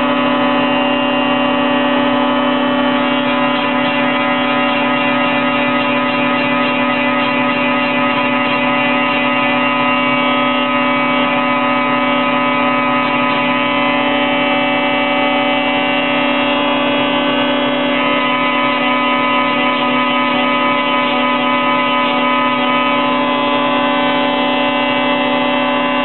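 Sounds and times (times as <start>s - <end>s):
spindle moulder droning and whining: 0.0s - 26.0s.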